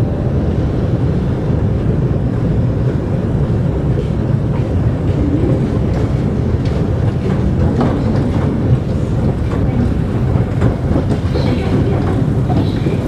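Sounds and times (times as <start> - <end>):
escalator rumble: 0.0 - 13.0.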